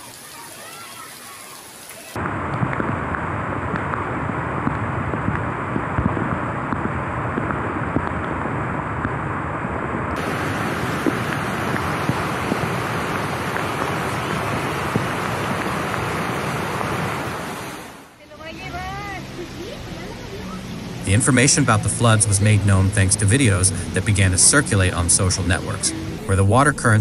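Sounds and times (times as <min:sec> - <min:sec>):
floodwater rushing: 0:00.0 - 0:09.0, 0:10.0 - 0:27.0
rain: 0:00.0 - 0:27.0.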